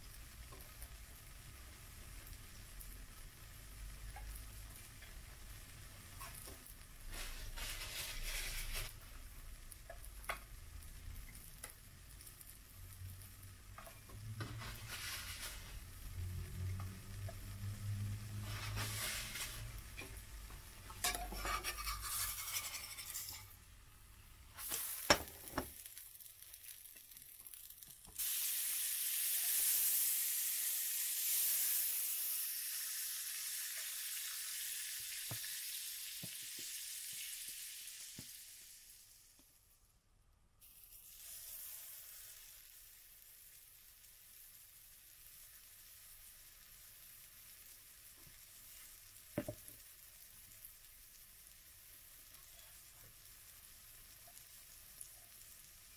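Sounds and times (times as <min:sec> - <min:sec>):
fat sizzling in a frying pan: 0:00.0 - 0:39.9, 0:40.6 - 0:55.9.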